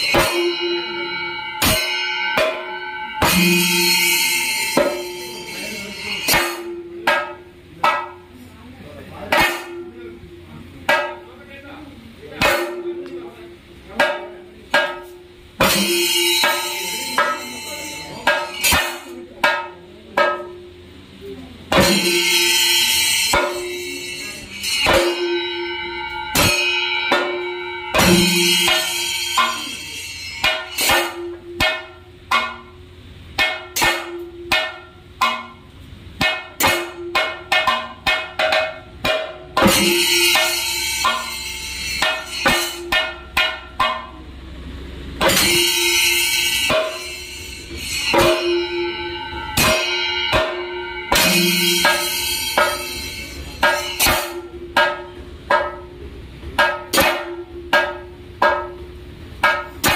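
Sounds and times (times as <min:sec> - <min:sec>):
cymbals clashing: 0:00.0 - 0:59.9
drums struck with sticks: 0:00.0 - 0:59.9.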